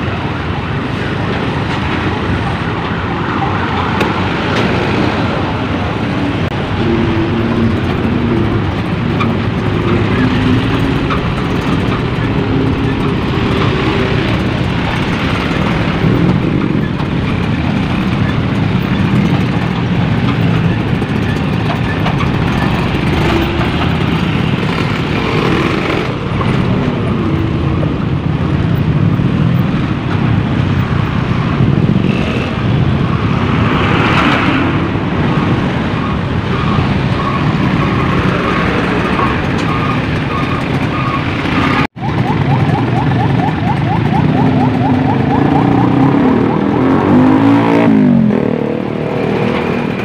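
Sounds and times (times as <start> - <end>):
heavy traffic engine rumble: 0.0 - 50.0
road noise: 0.0 - 50.0.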